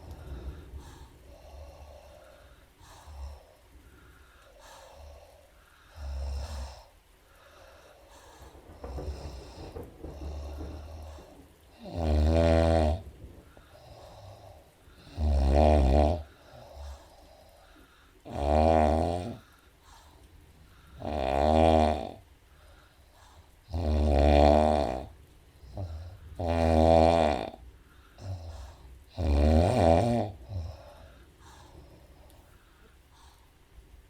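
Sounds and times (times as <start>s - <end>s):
woman snoring: 0.0s - 20.2s, 20.9s - 22.9s, 23.6s - 33.4s.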